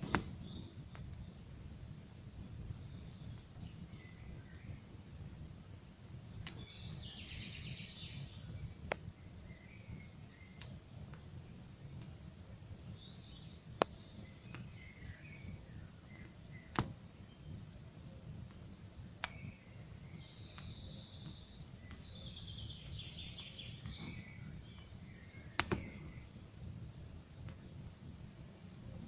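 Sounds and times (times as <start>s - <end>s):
wood popping in fire: 0.0s - 7.0s, 8.3s - 29.0s
campfire burning: 0.0s - 29.0s
songbirds chirping: 0.0s - 29.0s.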